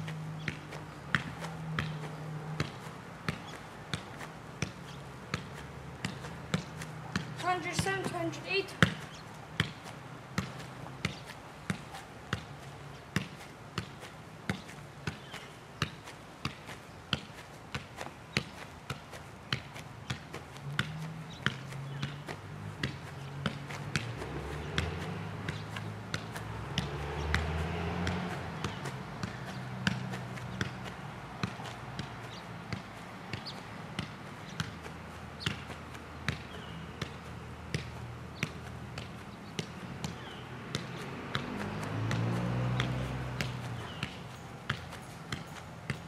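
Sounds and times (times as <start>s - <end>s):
ball tapping on foot: 0.0s - 12.6s, 13.2s - 46.0s.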